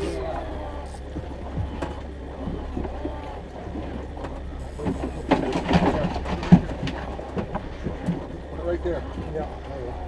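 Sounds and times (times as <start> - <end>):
boat motor humming: 0.0 - 10.0
knocks and clatter on boat: 0.0 - 10.0.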